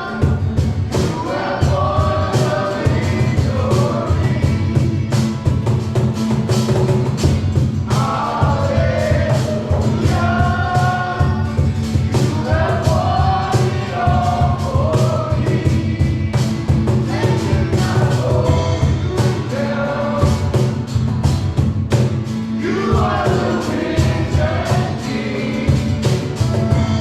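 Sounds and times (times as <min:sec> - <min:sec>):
group of voices singing: 0:00.0 - 0:06.3, 0:07.1 - 0:21.2, 0:22.0 - 0:27.0
band with heavy bass: 0:00.0 - 0:27.0.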